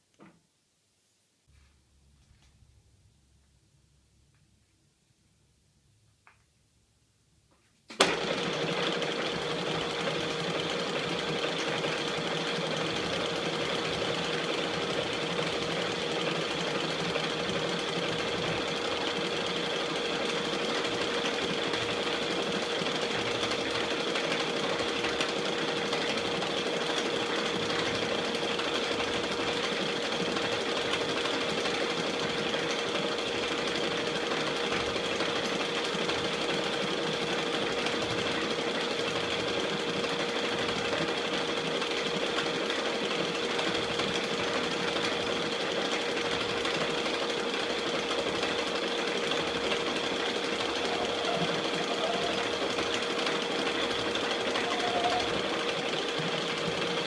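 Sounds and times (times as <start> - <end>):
metal lathe running: 8.1 - 57.0.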